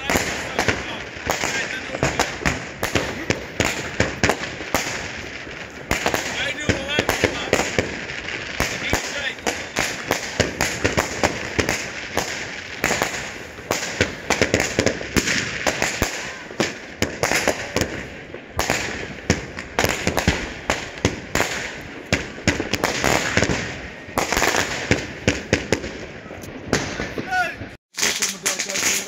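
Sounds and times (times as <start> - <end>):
firework crackling: 0.0 - 29.0
firework pops and bangs: 0.0 - 29.0.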